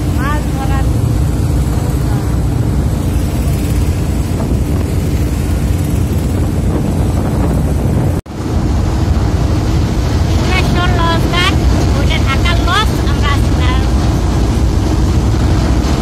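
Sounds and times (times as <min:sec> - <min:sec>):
boat engine droning: 0:00.0 - 0:16.0
wind buffeting microphone: 0:00.0 - 0:16.0.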